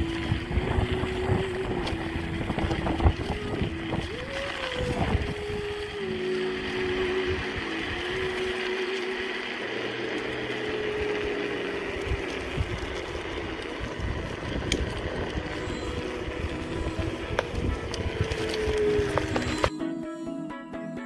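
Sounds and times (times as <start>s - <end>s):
road rumble: 0.0s - 19.7s
wind noise on microphone: 0.0s - 19.7s
electric scooter motor whine: 0.0s - 21.0s.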